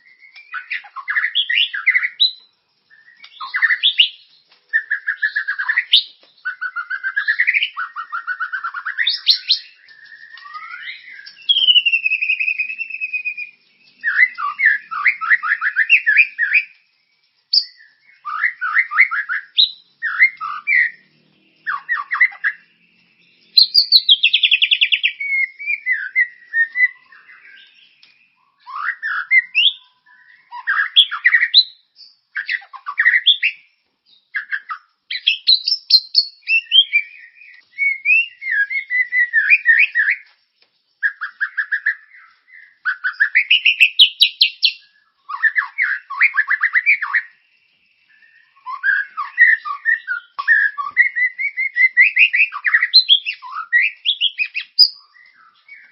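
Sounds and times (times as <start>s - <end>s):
songbird trills and chirps: 0.0s - 55.9s.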